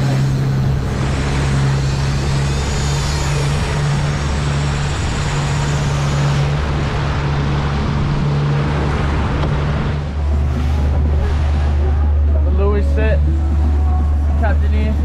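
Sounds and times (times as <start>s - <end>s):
churning wake water: 0.0s - 15.0s
outboard motor humming: 0.0s - 15.0s
wind: 0.0s - 15.0s.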